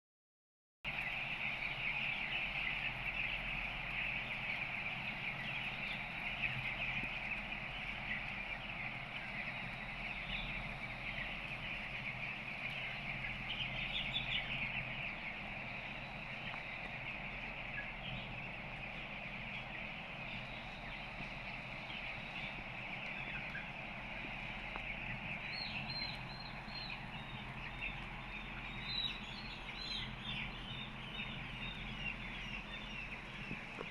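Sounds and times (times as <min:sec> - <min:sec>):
chicks peeping: 0:00.9 - 0:33.9
steady low hum: 0:00.9 - 0:33.9.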